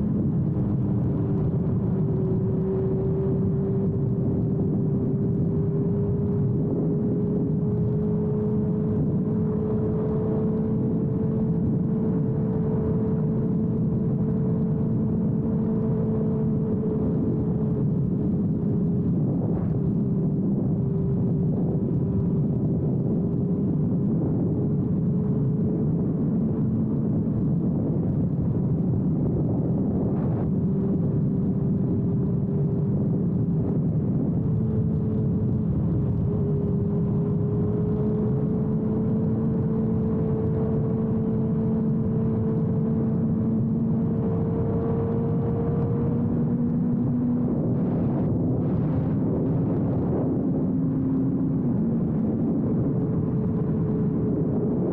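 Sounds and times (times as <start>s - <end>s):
motorcycle engine cruising: 0.0s - 54.9s
wind rush: 0.0s - 54.9s.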